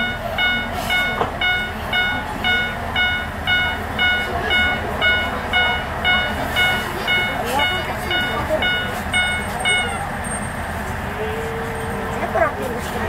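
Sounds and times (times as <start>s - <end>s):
level-crossing bell clanging: 0.0s - 10.7s
diesel railcar running: 0.0s - 13.0s.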